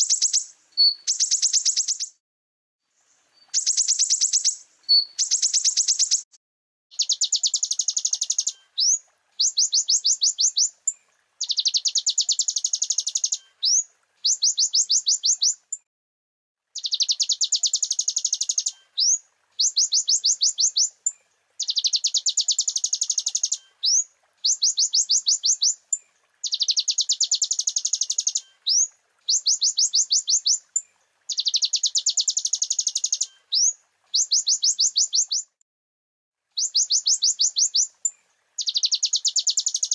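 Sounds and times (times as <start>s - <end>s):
sunbird singing high trill: 0.0s - 2.2s, 3.4s - 6.3s, 6.9s - 10.8s, 11.4s - 15.6s, 16.8s - 25.8s, 26.4s - 35.6s, 36.6s - 39.9s.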